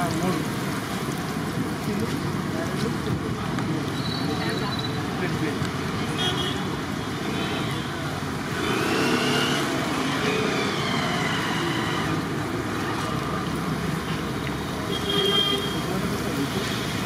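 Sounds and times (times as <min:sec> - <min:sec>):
roadside traffic: 0:00.0 - 0:17.0.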